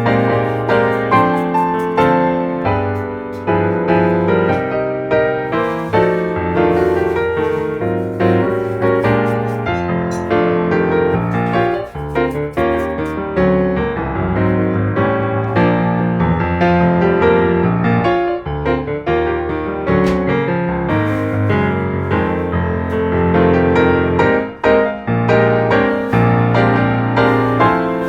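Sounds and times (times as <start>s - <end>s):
piano background music: 0.0s - 28.0s.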